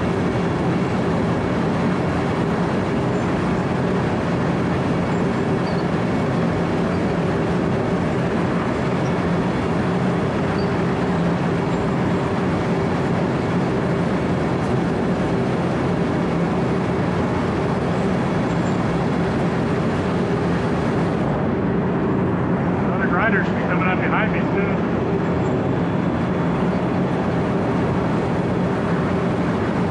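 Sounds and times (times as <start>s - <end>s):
milling machine engine running: 0.0s - 29.9s.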